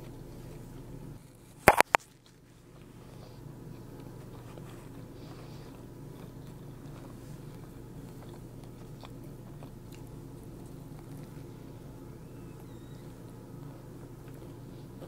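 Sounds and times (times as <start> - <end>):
chewing crispy fried chicken: 0.0 - 15.0
steady low hum: 0.0 - 15.0.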